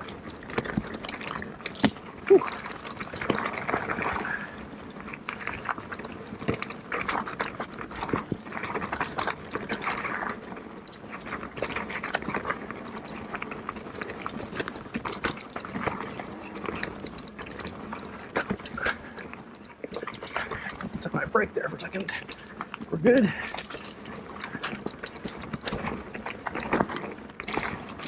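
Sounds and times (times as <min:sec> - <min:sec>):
bike rattling over trail: 0:00.0 - 0:28.0.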